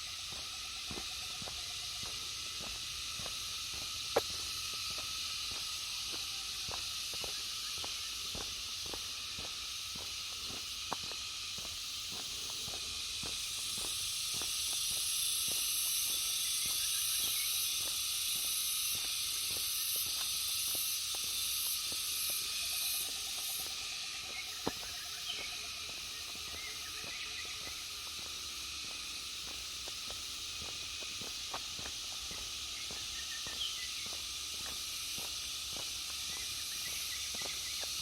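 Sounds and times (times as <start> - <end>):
footsteps on a road: 0.0 - 38.0
insects droning: 0.0 - 38.0.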